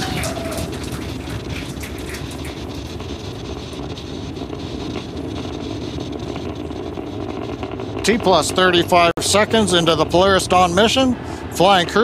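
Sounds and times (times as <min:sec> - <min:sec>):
rocket engines rumbling and crackling: 0:00.0 - 0:12.0.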